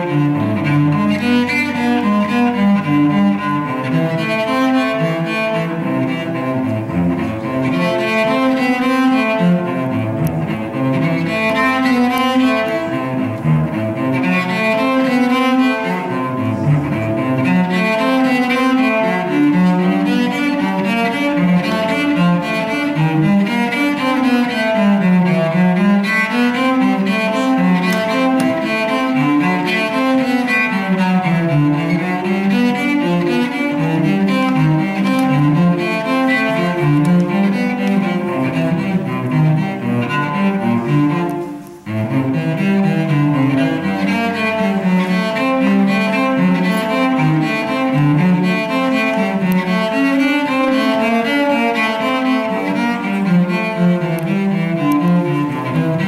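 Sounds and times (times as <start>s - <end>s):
cello bowed quick notes: 0.0s - 56.0s.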